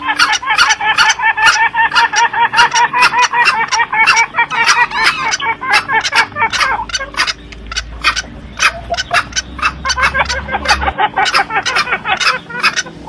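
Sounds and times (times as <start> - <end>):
junglefowl calling: 0.0 - 13.0.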